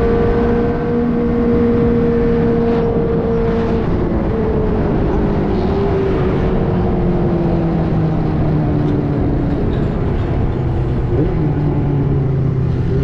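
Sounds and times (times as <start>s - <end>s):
motorcycle engine droning: 0.0s - 13.0s
wind and road noise: 0.0s - 13.0s.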